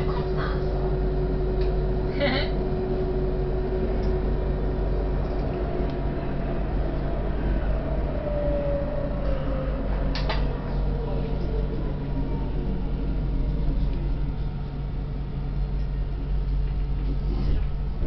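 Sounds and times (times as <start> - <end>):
low rumble: 0.0 - 18.0
tram motor whine: 0.0 - 18.0.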